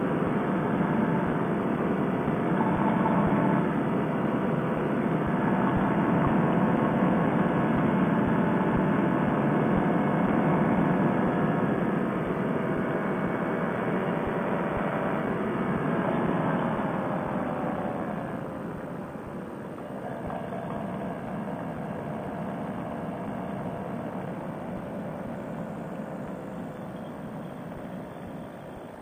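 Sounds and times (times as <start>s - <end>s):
paramotor engine and propeller: 0.0s - 29.0s.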